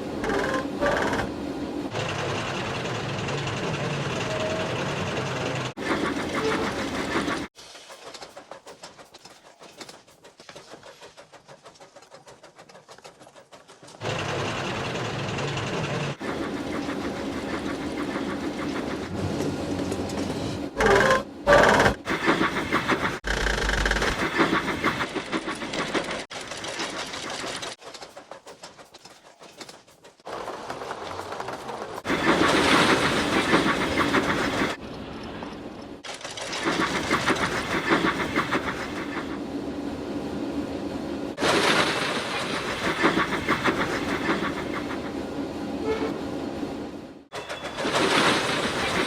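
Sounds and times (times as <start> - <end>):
locomotive running on rails: 0.0 - 49.0
rail clatter: 0.0 - 49.0.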